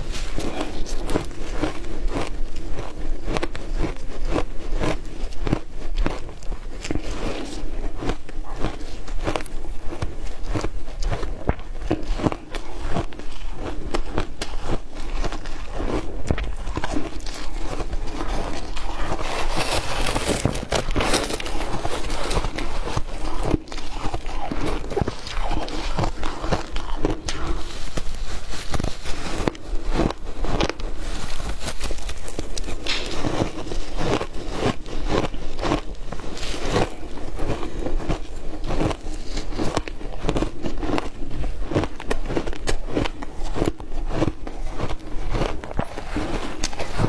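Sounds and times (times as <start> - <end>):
ice crunching being chewed: 0.0 - 47.0.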